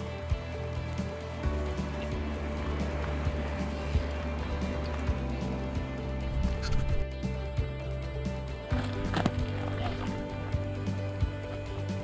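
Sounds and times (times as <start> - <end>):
background music with low bass: 0.0 - 12.0.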